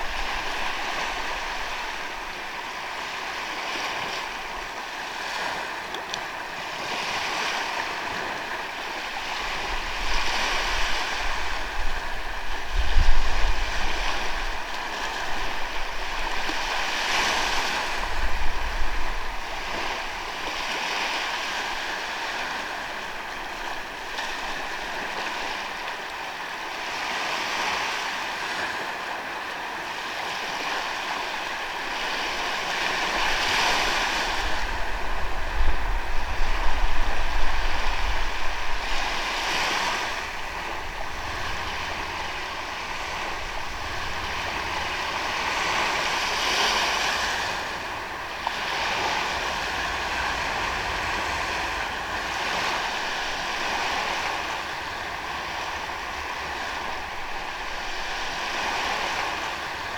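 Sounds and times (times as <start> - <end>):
sea waves washing on shore: 0.0 - 59.9
wind buffeting microphone: 6.8 - 25.6, 30.6 - 59.9.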